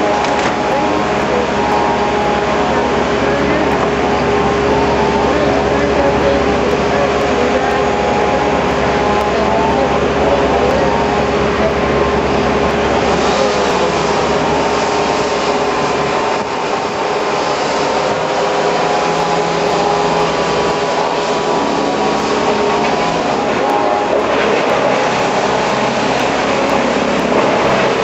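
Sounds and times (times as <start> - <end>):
heavy machinery engine running: 0.0 - 28.0.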